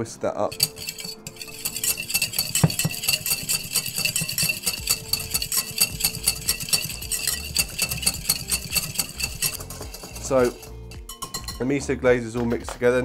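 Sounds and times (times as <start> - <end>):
whisk ticking against glass bowl: 0.5 - 11.7.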